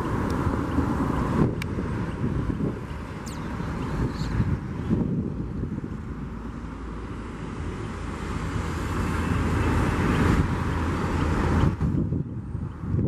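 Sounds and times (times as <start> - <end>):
jet aircraft roar: 0.0 - 13.0.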